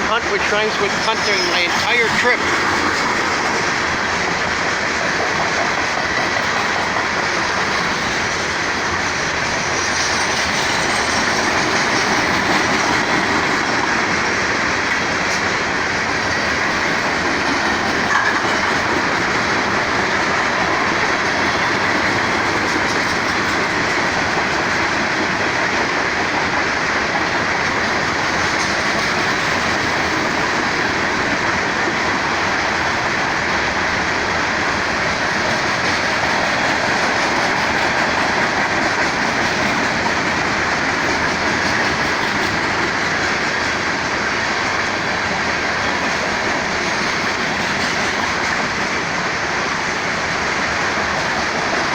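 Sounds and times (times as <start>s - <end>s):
freight trains rolling past: 0.0s - 51.9s.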